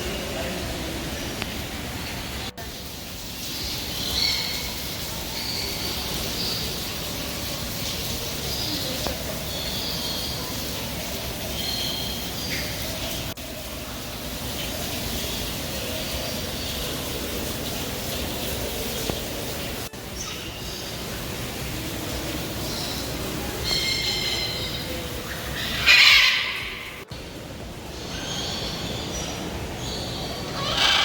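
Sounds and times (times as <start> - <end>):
birds chirping: 0.0 - 27.1, 27.8 - 31.0.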